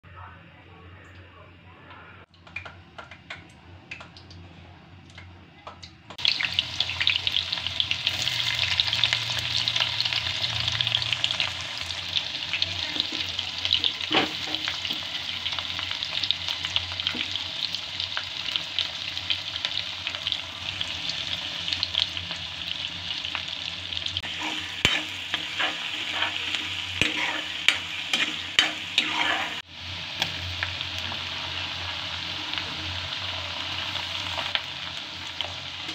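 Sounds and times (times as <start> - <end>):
vegetables sizzling in hot oil: 6.2 - 35.9.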